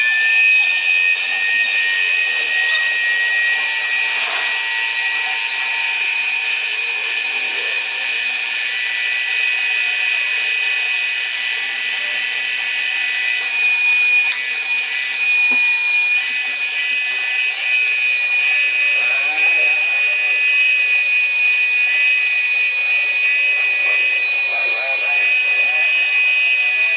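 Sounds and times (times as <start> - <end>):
router spindle whining: 0.0 - 26.9.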